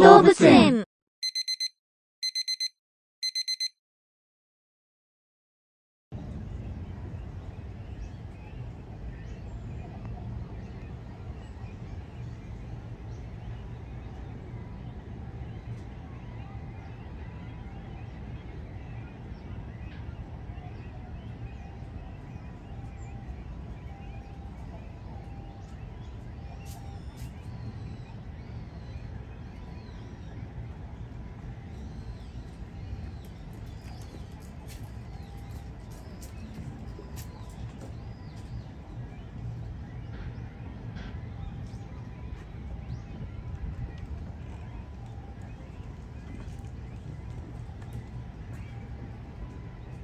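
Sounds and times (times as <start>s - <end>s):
low outdoor rumble: 6.1s - 50.0s.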